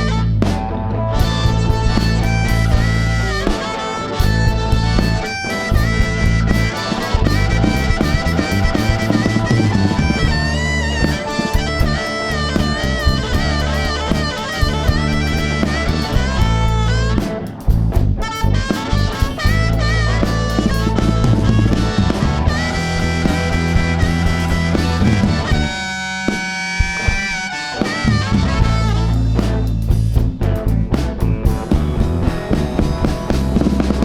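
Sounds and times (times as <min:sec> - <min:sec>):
blues band playing: 0:00.0 - 0:34.0
lead guitar bending notes: 0:00.0 - 0:34.0.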